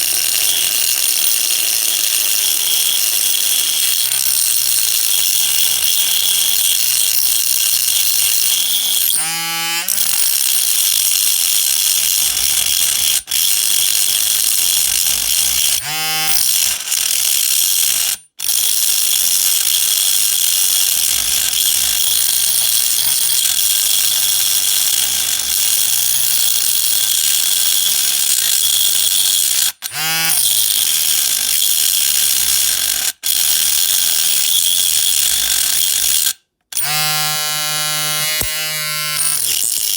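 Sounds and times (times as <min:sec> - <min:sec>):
rotary tool grinding metal: 0:00.0 - 0:39.9.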